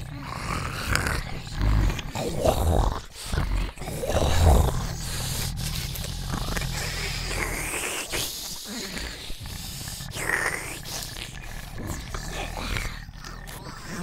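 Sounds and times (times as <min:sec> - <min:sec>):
monster guttural groans and grunts: 0:00.0 - 0:14.0.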